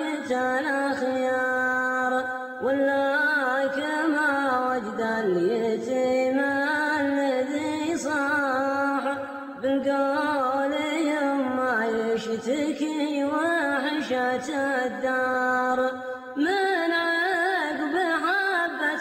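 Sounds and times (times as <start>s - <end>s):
person singing slow chant: 0.0s - 19.0s.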